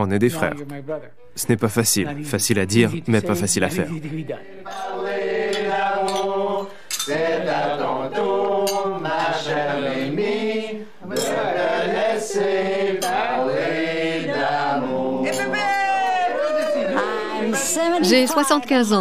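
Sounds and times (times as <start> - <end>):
voices singing a slow chant: 2.1 - 18.2.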